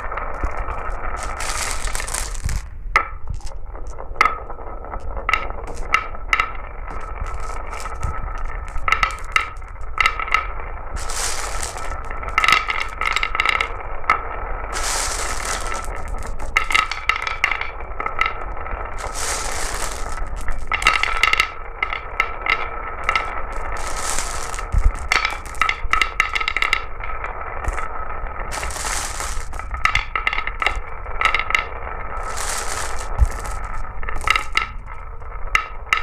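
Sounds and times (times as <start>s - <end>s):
glass marbles clattering on track: 0.0s - 13.9s, 14.7s - 36.0s
marbles rushing roll: 0.0s - 36.0s.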